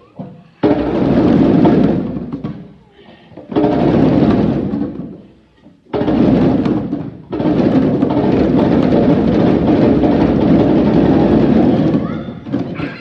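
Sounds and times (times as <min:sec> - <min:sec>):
group playing djembes: 0:00.6 - 0:13.0.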